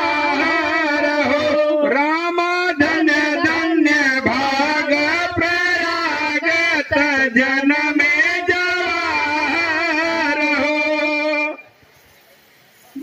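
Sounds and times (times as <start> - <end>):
person singing folk song: 0.0 - 11.8.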